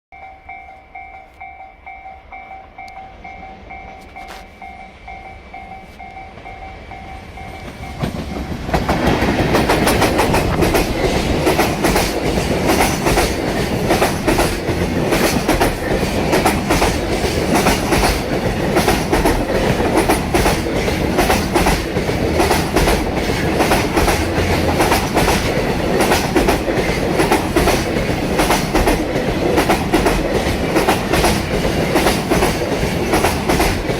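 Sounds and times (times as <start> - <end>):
freight train passing: 0.2 - 33.9.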